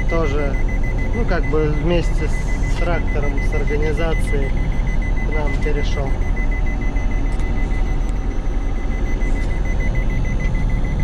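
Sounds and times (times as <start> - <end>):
combine harvester droning: 0.0 - 11.0
high-pitched warning buzzer beeps: 0.0 - 11.0.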